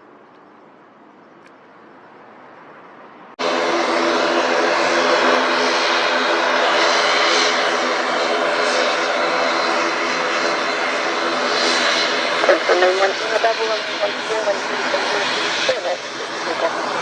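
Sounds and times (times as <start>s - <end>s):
airliner engines running: 0.0s - 17.0s.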